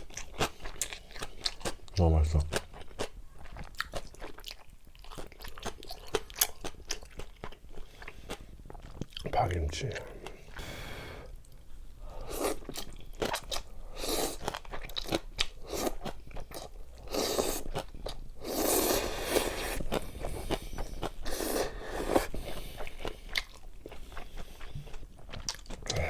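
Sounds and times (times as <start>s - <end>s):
person chewing and crunching food: 0.0s - 26.0s.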